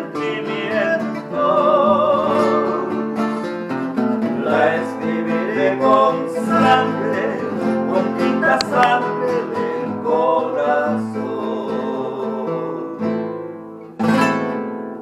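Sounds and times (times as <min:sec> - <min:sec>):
men singing: 0:00.0 - 0:03.4, 0:04.2 - 0:13.2
acoustic guitars strummed and picked: 0:00.0 - 0:15.0.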